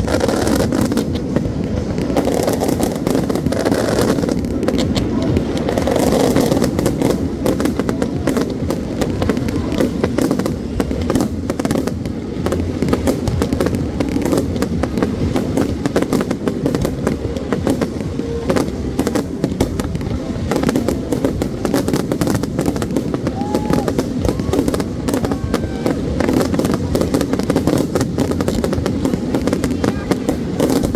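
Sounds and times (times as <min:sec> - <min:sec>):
fireworks bangs and crackles: 0:00.0 - 0:30.9
steady background din: 0:00.0 - 0:30.9.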